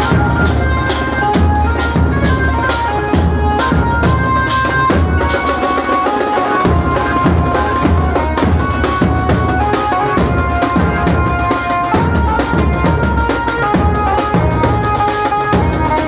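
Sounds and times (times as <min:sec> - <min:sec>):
banjo band playing: 0:00.0 - 0:16.0.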